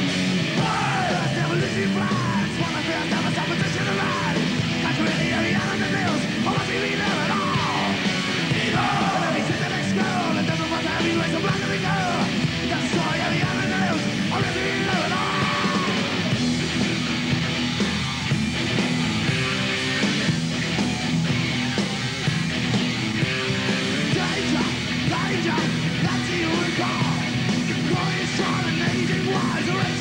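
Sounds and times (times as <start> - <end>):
heavy metal band playing live: 0.0 - 30.0.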